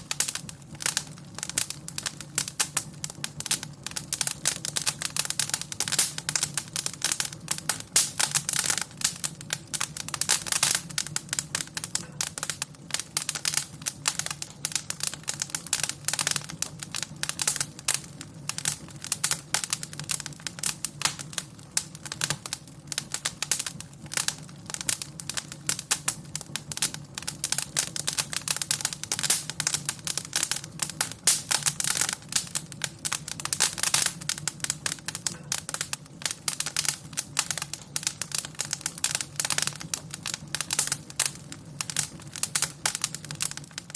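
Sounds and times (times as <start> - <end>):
low fire rumble: 0.0 - 43.9
wood fire crackling: 0.0 - 43.9.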